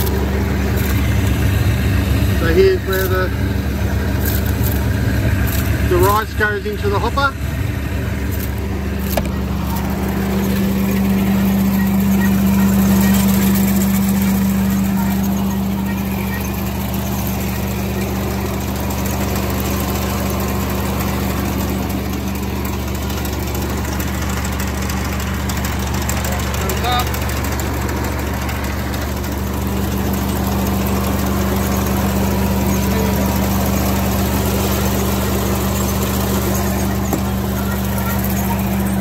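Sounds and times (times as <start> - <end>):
harvester engine drone: 0.0 - 39.0.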